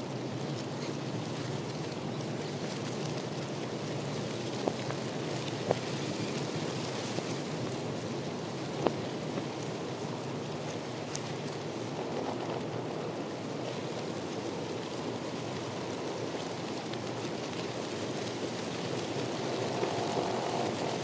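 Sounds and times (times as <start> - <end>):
rushing water: 1.0 - 21.0.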